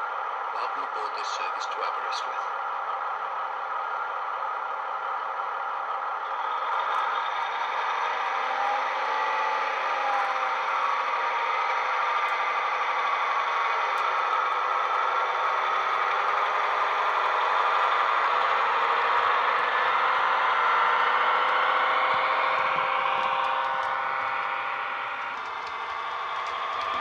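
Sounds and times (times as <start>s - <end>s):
model train diesel engine sound: 0.0s - 27.0s.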